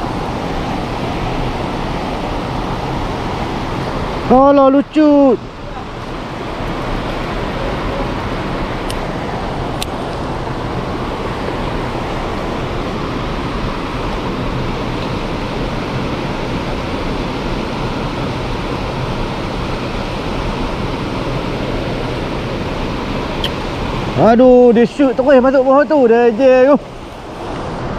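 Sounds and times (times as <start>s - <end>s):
stream rushing over rocks: 0.0s - 27.9s.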